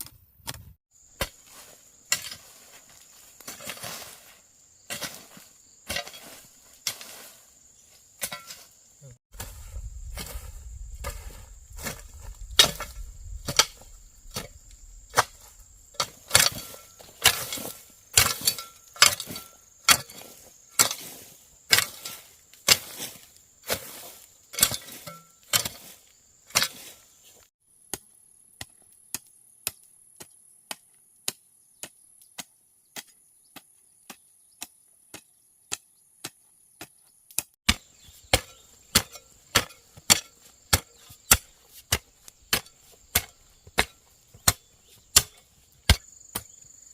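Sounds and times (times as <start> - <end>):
insects trilling: 1.0 - 30.6, 37.7 - 46.9.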